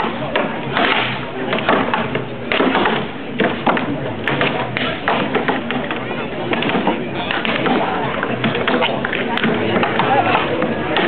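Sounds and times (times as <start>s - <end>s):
axes chopping wood: 0.0s - 11.0s.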